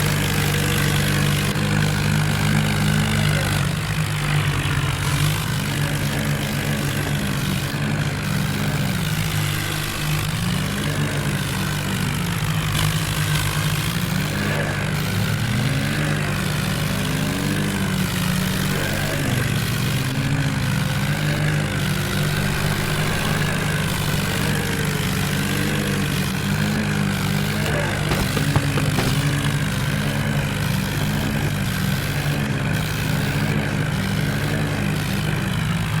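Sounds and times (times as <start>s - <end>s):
tractor diesel engines under load: 0.0s - 36.0s.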